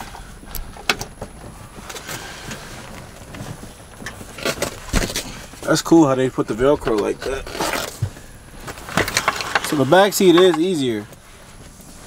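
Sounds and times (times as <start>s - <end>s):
vinyl seat cover rustling: 0.0s - 12.0s.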